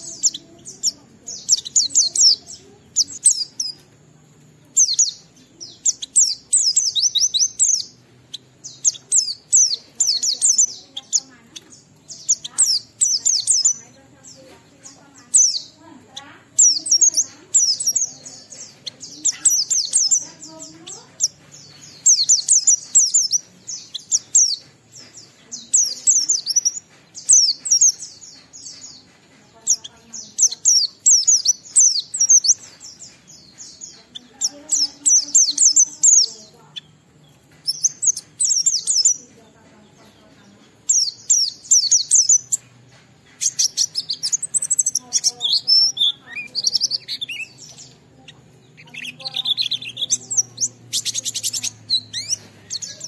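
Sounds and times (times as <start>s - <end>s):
bird twittering chirps: 0.0s - 53.0s.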